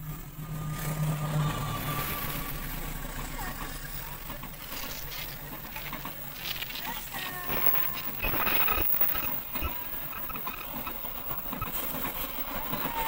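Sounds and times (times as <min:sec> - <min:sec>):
train coaches rolling past: 0:00.0 - 0:13.0.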